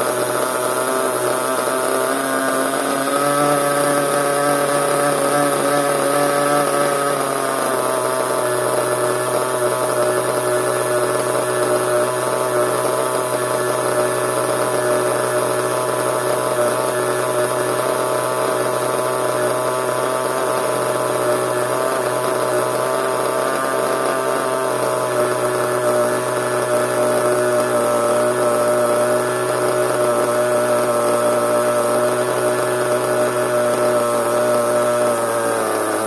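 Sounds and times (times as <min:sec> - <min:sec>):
small nitro engine running: 0:00.0 - 0:36.0.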